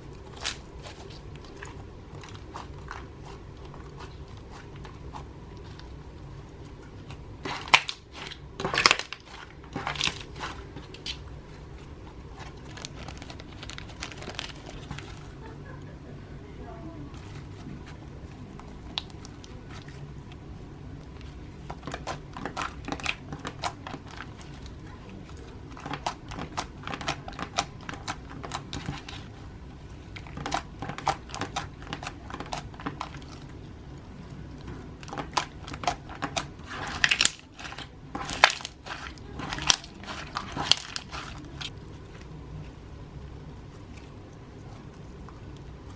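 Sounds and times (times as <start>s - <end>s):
slime crackling and popping: 0.0s - 15.5s, 17.1s - 45.9s.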